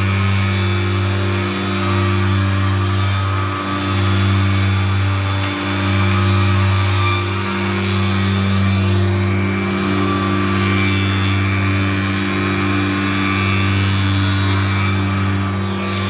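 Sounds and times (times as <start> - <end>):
planing machine motor hum: 0.0 - 16.0.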